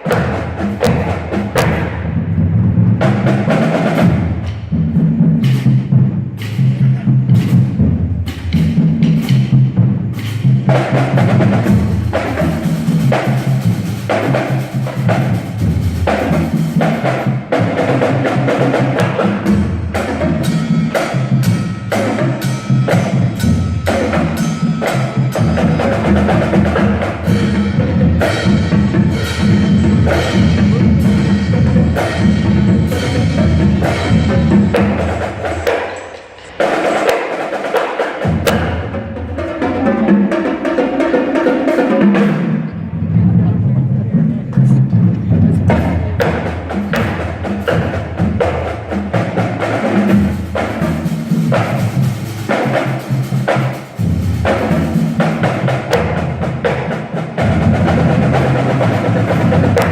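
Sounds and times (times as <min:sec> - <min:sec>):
drums beating: 0:00.0 - 0:59.9
marching band playing: 0:00.0 - 0:59.9.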